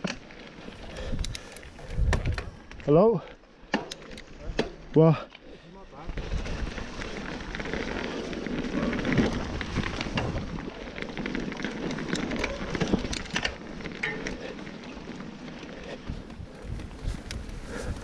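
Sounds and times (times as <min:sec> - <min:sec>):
bike knocking and rattling: 0:00.0 - 0:18.0
bike tyres crunching over soil: 0:00.0 - 0:18.0.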